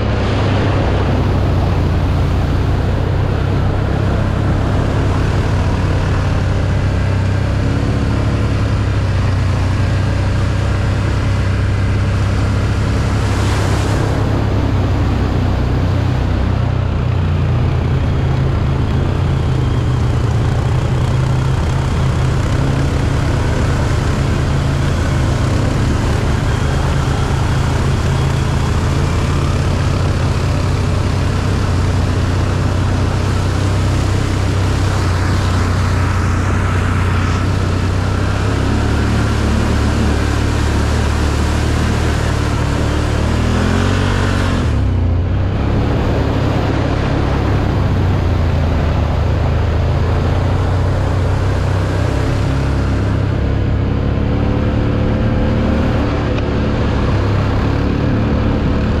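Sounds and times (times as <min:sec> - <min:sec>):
engine droning: 0:00.0 - 0:59.0
road and wind noise: 0:00.0 - 0:59.0.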